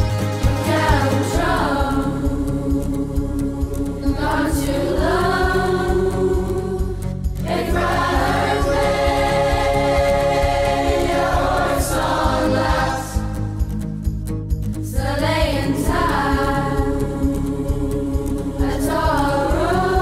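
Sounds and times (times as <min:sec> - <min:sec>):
mixed choir singing: 0:00.0 - 0:13.6, 0:14.9 - 0:20.0.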